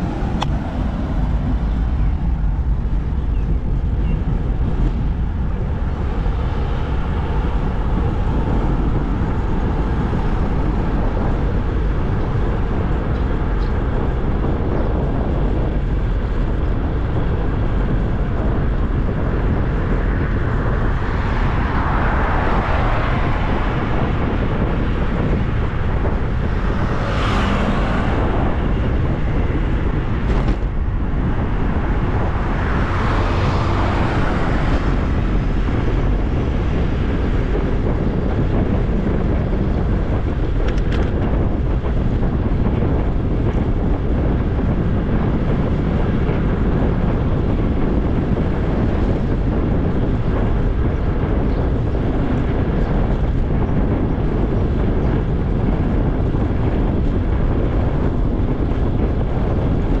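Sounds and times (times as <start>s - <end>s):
wind buffeting microphone: 0.0s - 60.0s.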